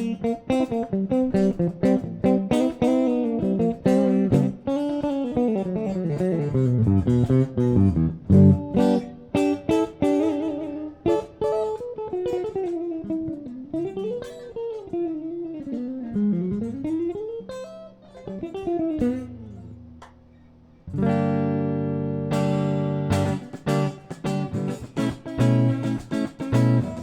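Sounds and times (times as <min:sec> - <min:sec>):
guitar chord ringing: 0:00.0 - 0:20.1, 0:20.9 - 0:27.0
electric guitar lead line: 0:00.0 - 0:27.0.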